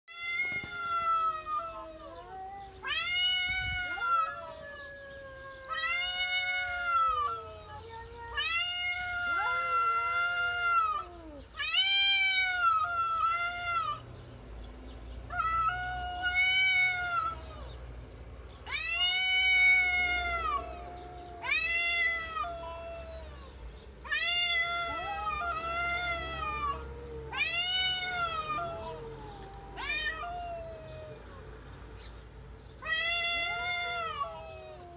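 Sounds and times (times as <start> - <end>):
cats yowling: 0.1 - 14.1, 15.3 - 17.8, 18.6 - 31.6, 32.8 - 34.9.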